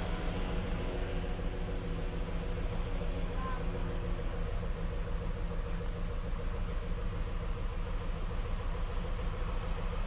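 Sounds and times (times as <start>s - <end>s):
diesel engine running steadily: 0.0s - 10.0s.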